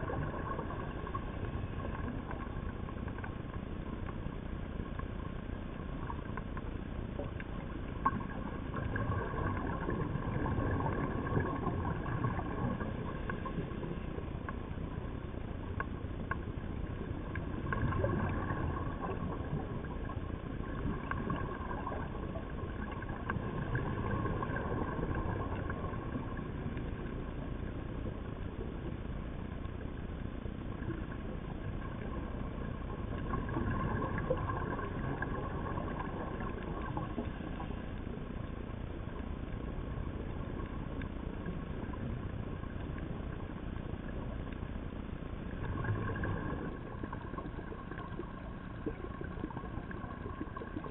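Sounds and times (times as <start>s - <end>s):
faint steady hum: 0.0s - 50.9s
underwater rumble and hiss: 0.0s - 50.9s.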